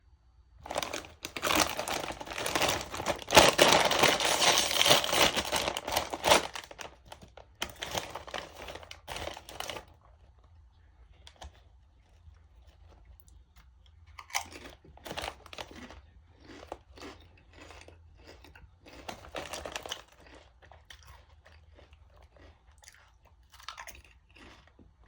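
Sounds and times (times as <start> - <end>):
plastic chip bag crinkling: 0.6 - 10.4, 14.1 - 24.8.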